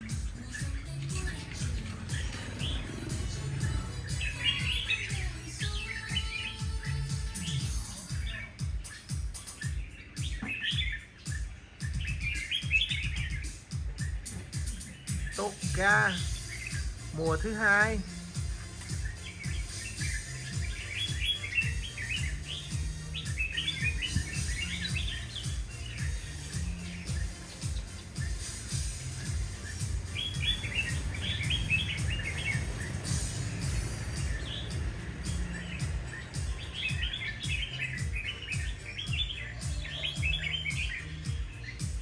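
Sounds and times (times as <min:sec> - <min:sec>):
background music with bass beat: 0:00.0 - 0:42.0
bird chirping: 0:00.0 - 0:42.0.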